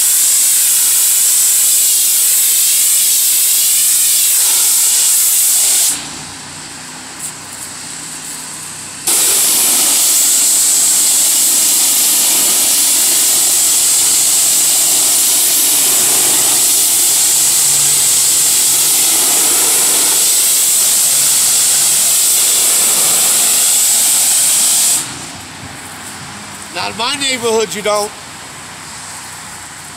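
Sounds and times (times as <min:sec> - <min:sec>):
pressure washer engine running: 0:00.0 - 0:29.9
pressure washer spraying brick: 0:00.0 - 0:29.9.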